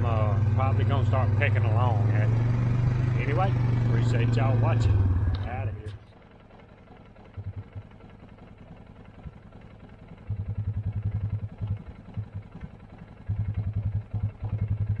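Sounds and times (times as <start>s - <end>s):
tractor diesel engine: 0.0s - 15.0s.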